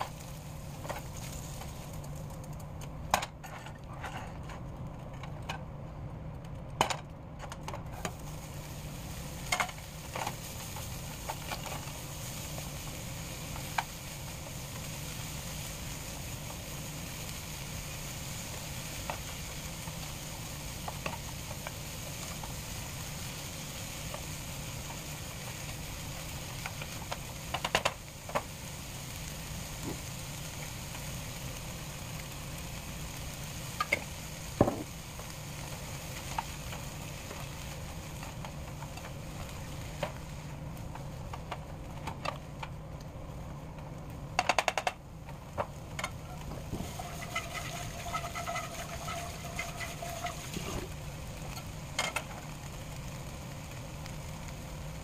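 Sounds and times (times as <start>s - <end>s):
vegetables frying in a pan: 0.0s - 55.0s.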